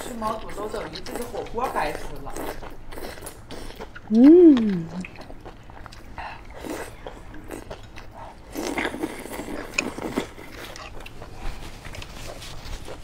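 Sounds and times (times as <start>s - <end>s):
close-miked eating with mouth smacks: 0.0s - 13.0s.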